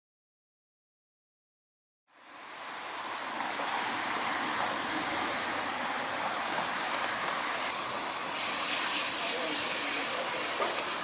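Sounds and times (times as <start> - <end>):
tyres hissing on wet road: 2.1 - 11.0.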